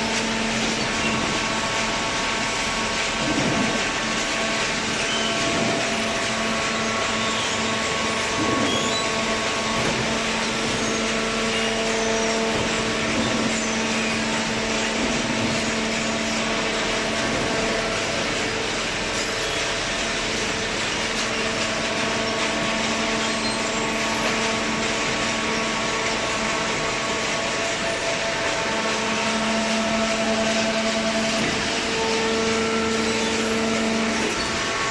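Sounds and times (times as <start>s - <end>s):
constant hum: 0.0s - 34.9s
machinery whirring: 0.0s - 34.9s.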